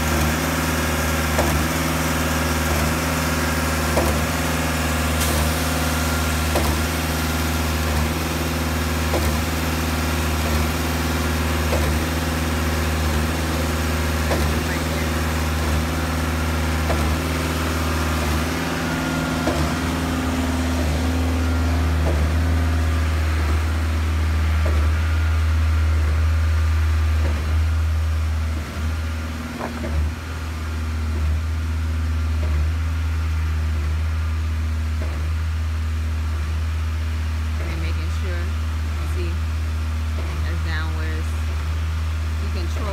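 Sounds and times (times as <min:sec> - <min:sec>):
pump engine droning: 0:00.0 - 0:42.9.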